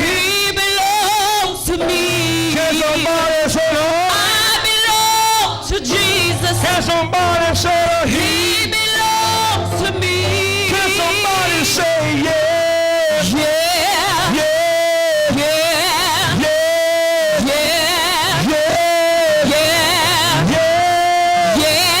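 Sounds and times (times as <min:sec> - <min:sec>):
gospel music with singing: 0:00.0 - 0:22.0.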